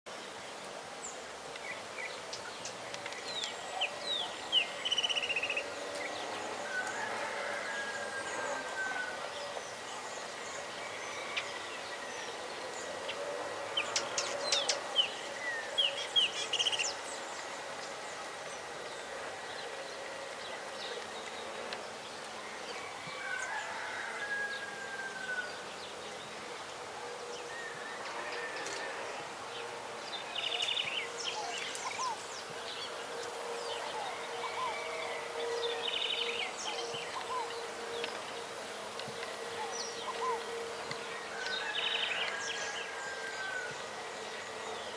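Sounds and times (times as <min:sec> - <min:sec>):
birds chirping: 0:00.3 - 0:44.9.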